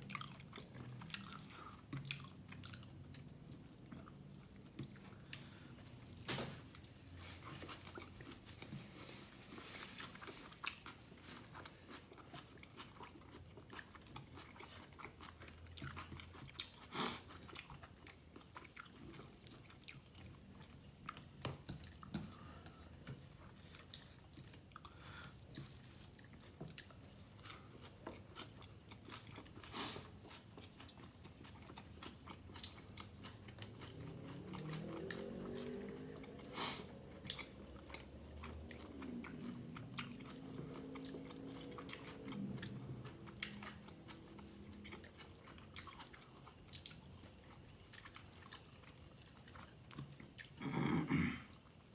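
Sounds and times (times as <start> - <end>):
wet chewing and lip smacks: 0.0 - 6.9, 9.9 - 50.6.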